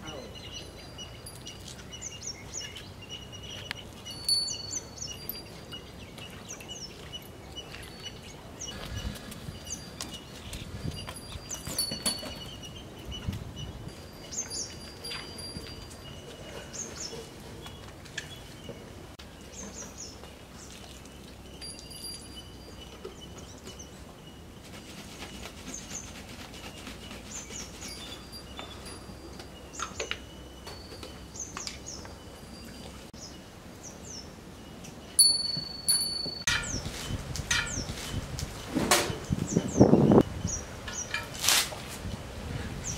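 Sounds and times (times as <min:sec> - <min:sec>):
small birds chirping: 0:00.0 - 0:41.3.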